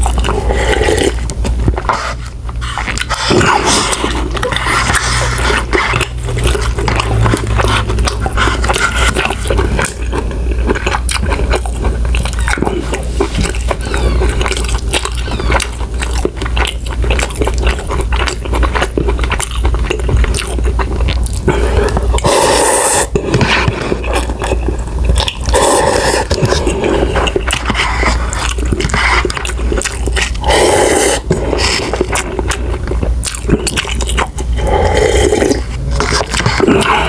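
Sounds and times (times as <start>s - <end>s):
wet chewing mouth clicks: 0.0s - 37.0s.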